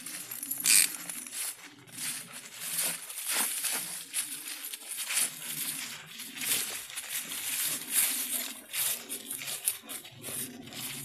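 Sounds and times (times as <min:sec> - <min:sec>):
footsteps crunching dry leaves: 0:00.0 - 0:11.0.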